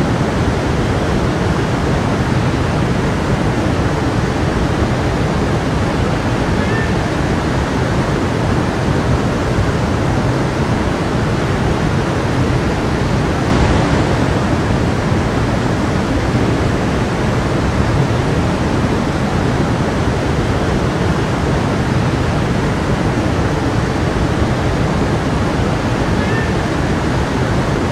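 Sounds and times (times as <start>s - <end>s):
water rushing over rocks: 0.0s - 27.9s.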